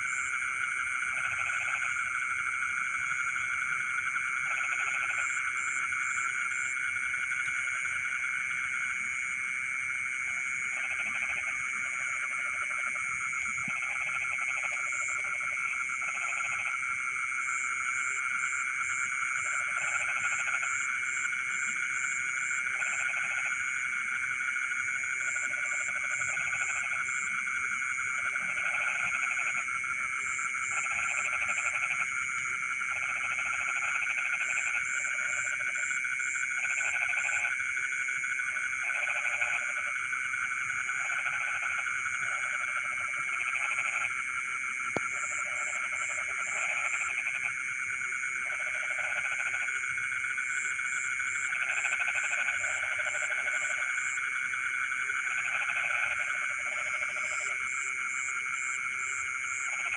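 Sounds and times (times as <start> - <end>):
frogs croaking: 0.0 - 59.9
high trilling of frogs: 0.0 - 59.9.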